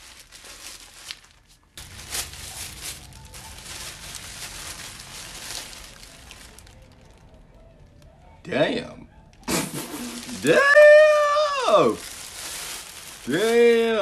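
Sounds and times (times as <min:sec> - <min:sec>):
packaging rustling and crinkling: 0:00.0 - 0:07.6, 0:09.4 - 0:14.0.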